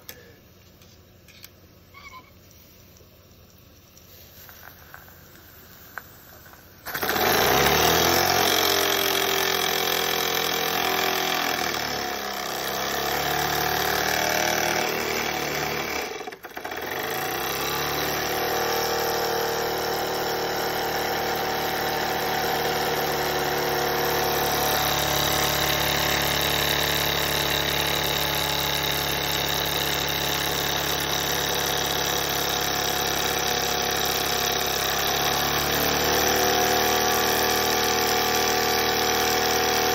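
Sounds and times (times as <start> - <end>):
model steam engine running: 6.9 - 39.9.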